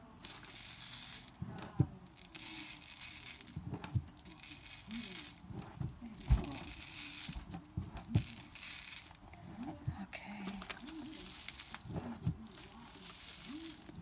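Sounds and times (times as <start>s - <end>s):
glitter rustling hiss: 0.0s - 14.0s.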